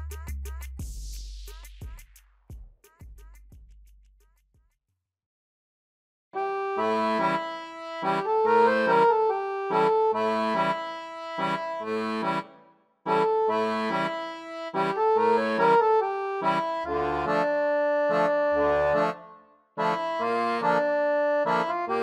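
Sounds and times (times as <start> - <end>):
bouncy reed-like instrumental music: 0.0 - 4.0, 6.4 - 22.0.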